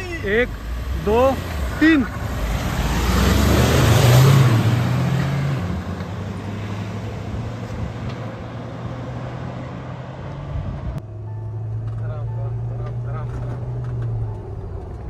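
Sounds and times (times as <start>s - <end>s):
vehicles accelerating hard: 0.0s - 15.0s.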